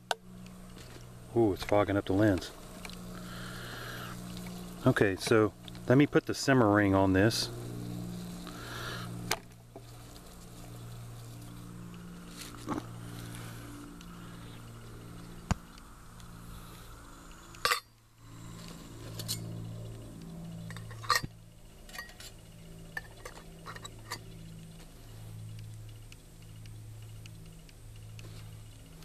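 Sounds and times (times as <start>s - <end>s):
low pulsing drone: 0.0s - 29.0s.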